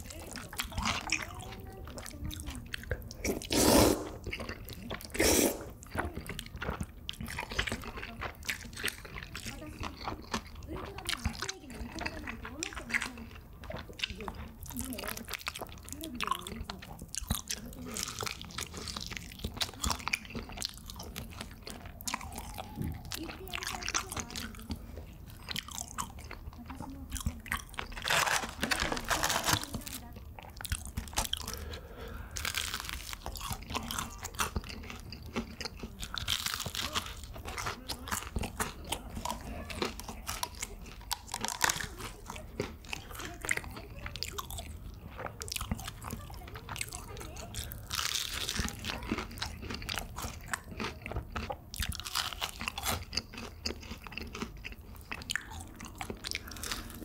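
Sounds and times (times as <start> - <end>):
chewing crackle: 0.0 - 57.0
crunchy food being bitten: 0.0 - 57.0.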